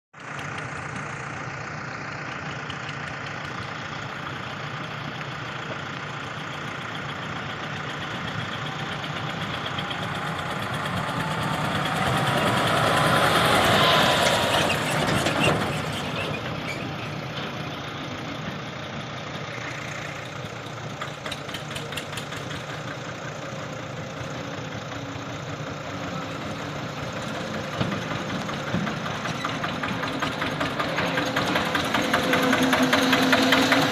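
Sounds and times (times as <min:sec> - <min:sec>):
heavy machinery diesel engines: 0:00.2 - 0:33.9.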